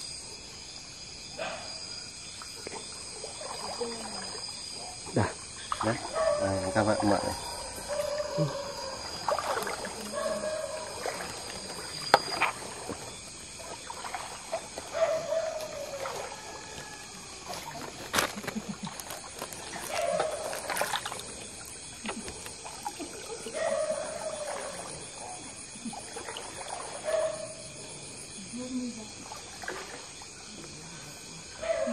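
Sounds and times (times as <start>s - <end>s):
water splashing and trickling: 1.6s - 31.9s.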